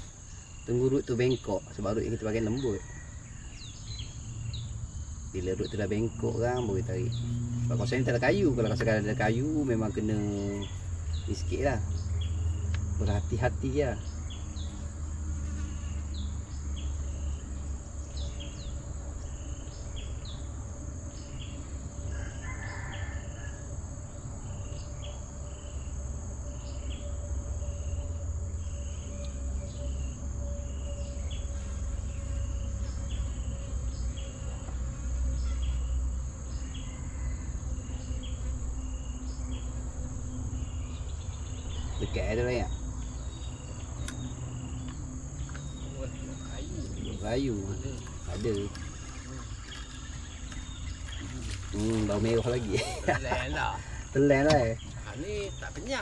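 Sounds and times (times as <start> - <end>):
insects droning and chirping: 0.0 - 56.0.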